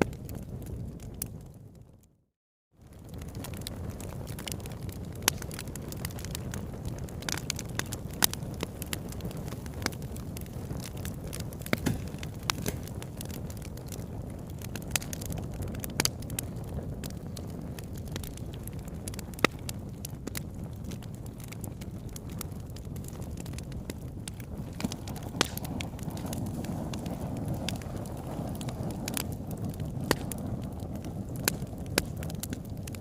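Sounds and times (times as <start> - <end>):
wood crackling and popping: 0.0 - 2.1, 2.8 - 33.0
low rumble of flames: 0.0 - 2.2, 2.8 - 33.0.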